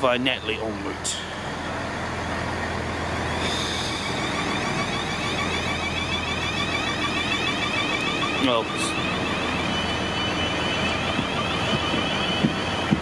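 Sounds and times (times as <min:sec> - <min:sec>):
train low hum: 0:00.0 - 0:13.0
traction motor whine rising: 0:00.4 - 0:13.0.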